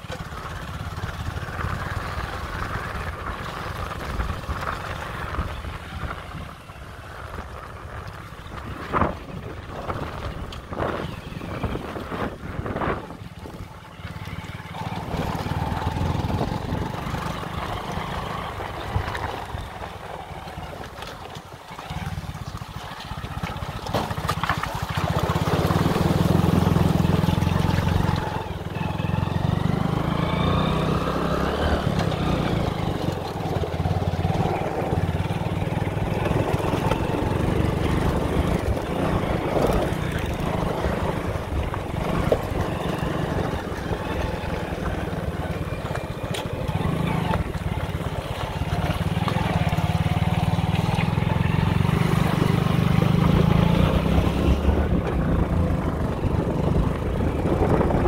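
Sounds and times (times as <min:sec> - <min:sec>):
motorbike engine running: 0:00.0 - 0:58.0
wind buffeting microphone: 0:01.0 - 0:23.8, 0:25.1 - 0:58.0.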